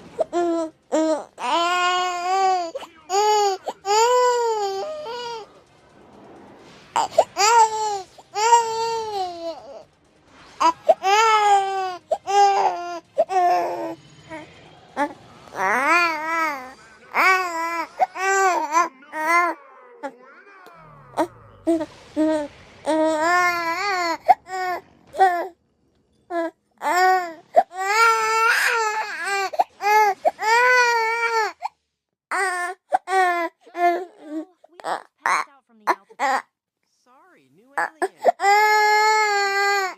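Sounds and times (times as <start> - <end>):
infant crying: 0.0 - 5.6, 7.0 - 9.9, 10.6 - 25.6, 26.3 - 31.7, 32.3 - 36.4, 37.8 - 39.9.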